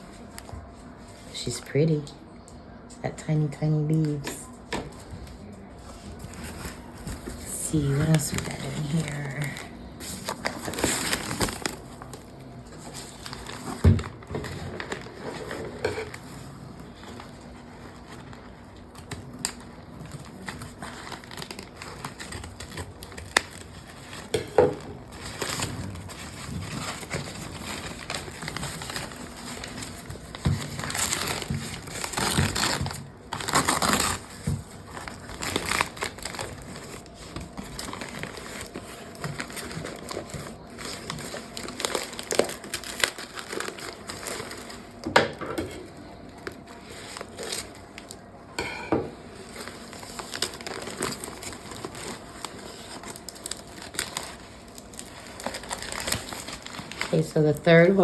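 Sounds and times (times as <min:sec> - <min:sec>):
packing paper crinkling: 0:04.9 - 0:45.1, 0:45.7 - 0:48.4, 0:49.2 - 0:58.0.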